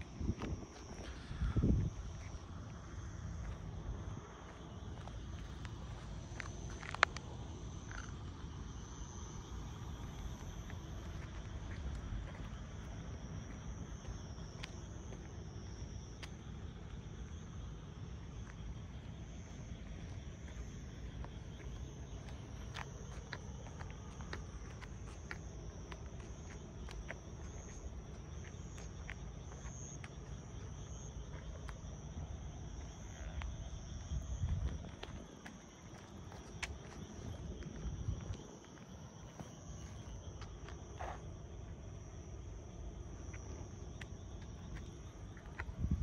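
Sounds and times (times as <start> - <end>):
night insects chirring: 0.0 - 46.0.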